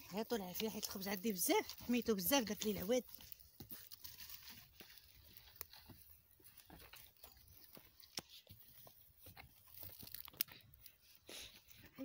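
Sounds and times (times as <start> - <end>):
stick raking embers: 0.0 - 11.9.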